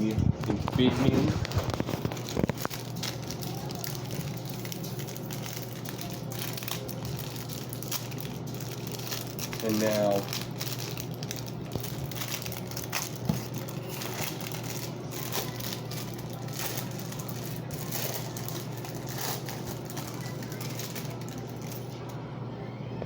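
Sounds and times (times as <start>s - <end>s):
packaging rustling and crinkling: 0.0s - 22.0s
steady low hum: 0.0s - 23.0s.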